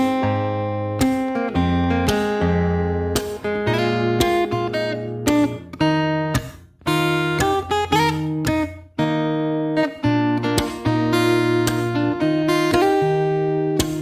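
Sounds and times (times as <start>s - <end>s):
guitar strummed and plucked: 0.0s - 14.0s.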